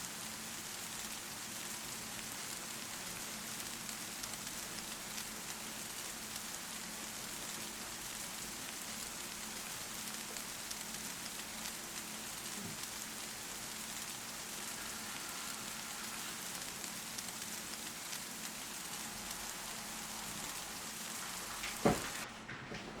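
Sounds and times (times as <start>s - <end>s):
steady rain patter: 0.0s - 22.3s.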